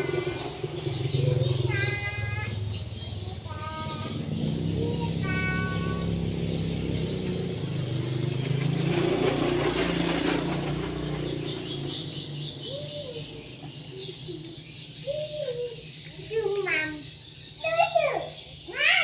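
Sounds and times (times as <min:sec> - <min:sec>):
vehicle engine running: 0:00.0 - 0:18.0
rising and falling calls: 0:00.0 - 0:19.0.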